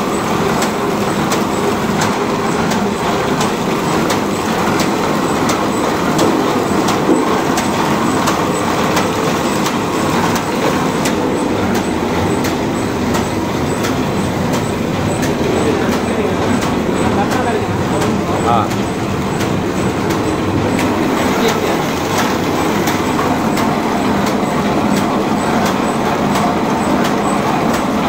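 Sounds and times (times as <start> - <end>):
machine clattering: 0.0 - 28.0
machine cycle clicks: 0.0 - 28.0.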